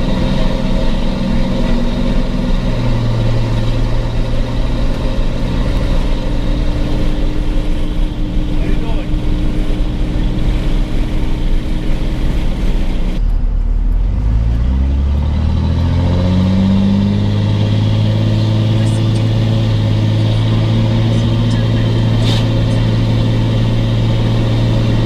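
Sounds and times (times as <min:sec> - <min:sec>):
vehicle engine accelerating: 0:00.0 - 0:25.0.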